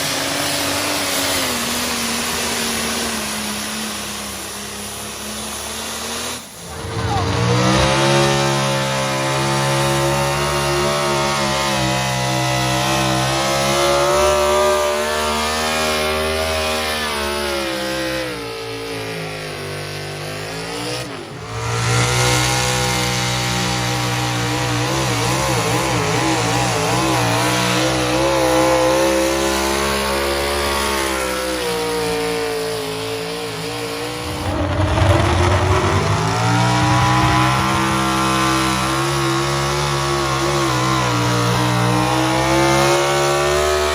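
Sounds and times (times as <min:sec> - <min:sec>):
engine running hard under load: 0:00.0 - 0:43.9.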